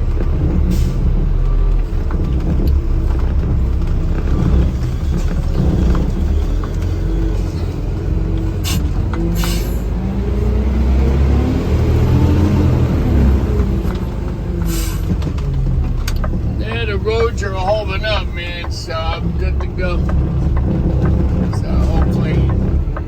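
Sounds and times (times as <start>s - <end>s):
road rumble inside cab: 0.0s - 23.0s
vehicle engine drone: 0.0s - 23.0s.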